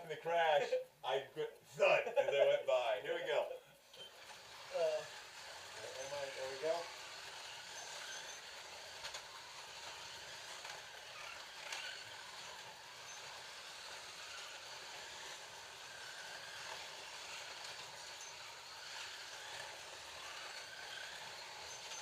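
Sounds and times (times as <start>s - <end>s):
slot cars whirring: 1.8s - 22.0s
cars rattling along plastic track: 4.2s - 22.0s.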